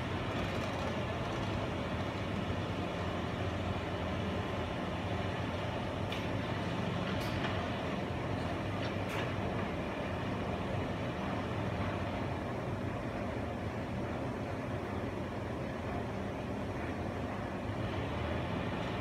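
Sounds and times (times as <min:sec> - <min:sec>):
heavy diesel engines running: 0:00.0 - 0:19.0.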